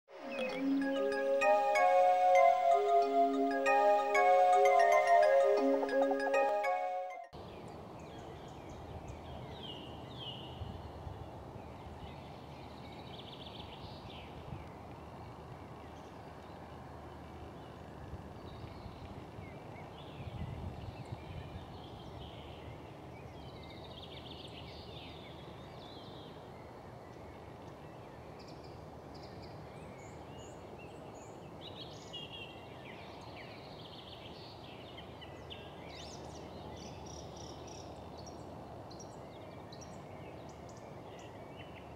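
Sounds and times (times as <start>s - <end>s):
low background noise: 0.1s - 41.9s.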